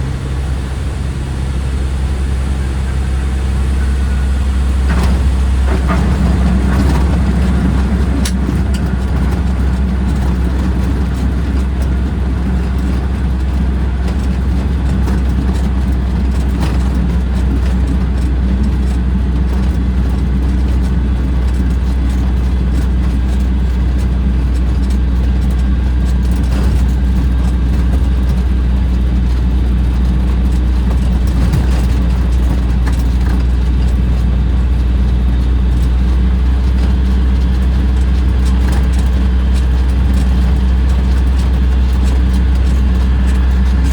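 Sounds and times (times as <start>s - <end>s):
microlight engine drone: 0.0s - 43.9s.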